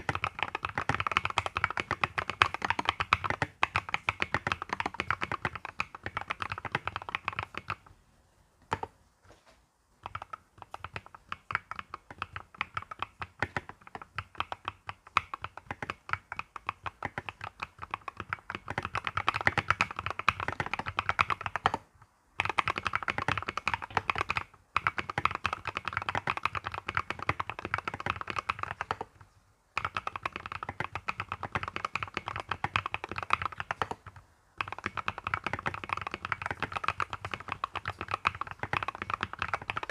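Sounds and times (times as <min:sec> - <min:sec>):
mechanical keyboard typing: 0:00.0 - 0:07.9, 0:08.7 - 0:08.9, 0:10.0 - 0:29.2, 0:29.8 - 0:39.9.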